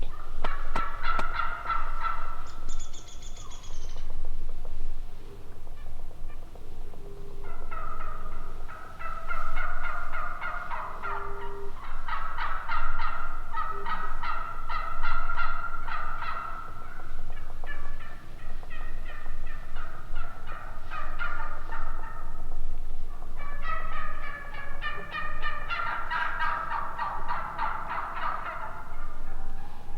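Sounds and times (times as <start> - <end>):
turkeys gobbling: 0.0 - 29.9.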